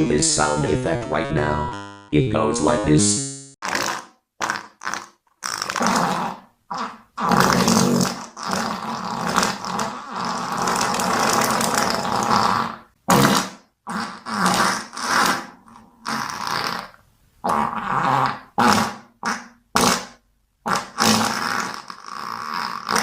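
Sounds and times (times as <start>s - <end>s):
farts: 3.6s - 23.0s.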